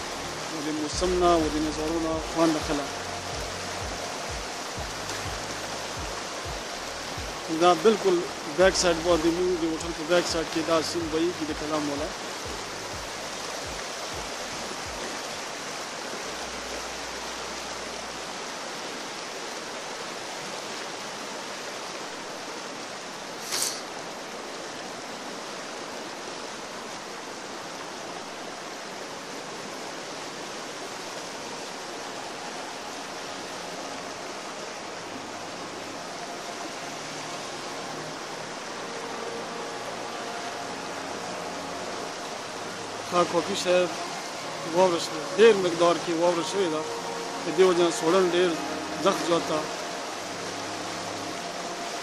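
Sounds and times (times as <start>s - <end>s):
river rushing over rocks: 0.0s - 52.0s.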